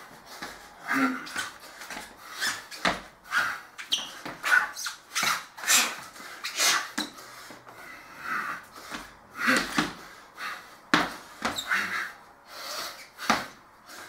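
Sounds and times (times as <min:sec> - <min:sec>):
man breathing forcefully: 0:00.0 - 0:04.7, 0:05.6 - 0:14.0.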